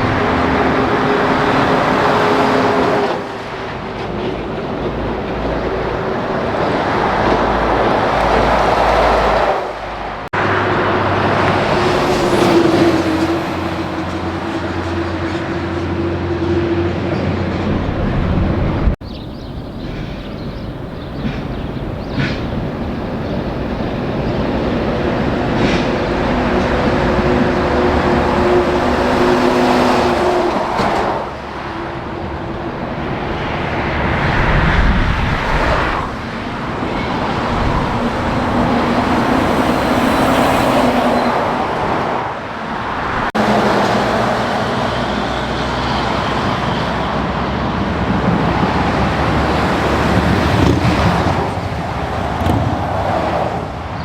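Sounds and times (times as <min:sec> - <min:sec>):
heavy trucks passing on highway: 0:00.0 - 0:54.0.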